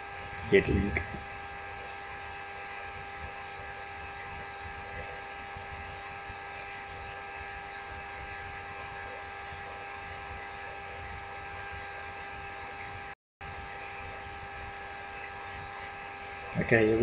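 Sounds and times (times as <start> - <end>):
constant electrical tones: 0.0 - 17.0
electrical hum and hiss: 0.0 - 17.0.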